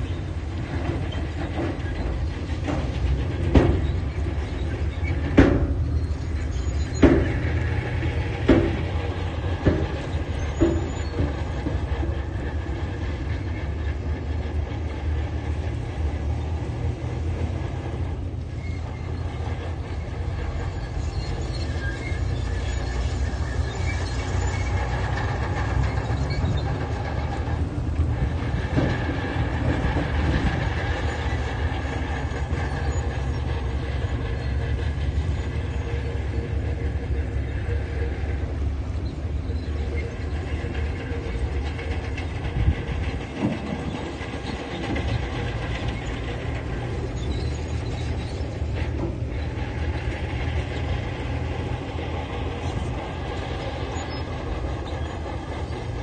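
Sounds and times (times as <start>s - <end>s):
diesel engine running under load: 0.0s - 56.0s
metal clanks of tracks: 0.0s - 56.0s.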